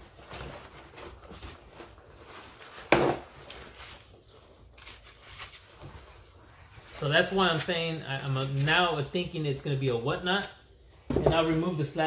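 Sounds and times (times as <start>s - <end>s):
box being unpacked rustling: 0.0s - 12.0s.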